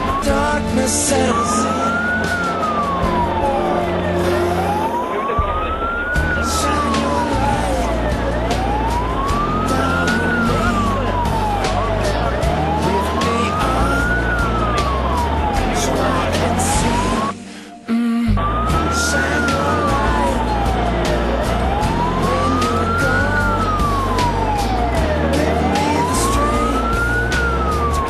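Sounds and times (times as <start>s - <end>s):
engine and road noise: 0.0s - 17.4s, 18.4s - 28.0s
fire engine siren wailing: 0.0s - 28.0s.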